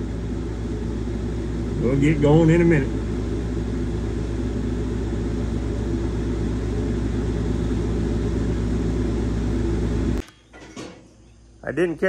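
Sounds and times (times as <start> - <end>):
band sawmill engine drone: 0.0 - 10.3.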